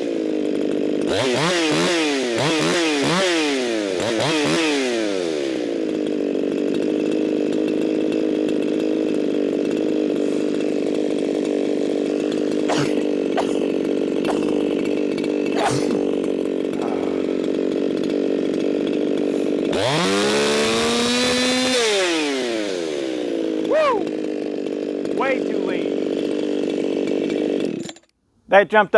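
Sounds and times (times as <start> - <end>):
chainsaw idling and revving: 0.0 - 28.2.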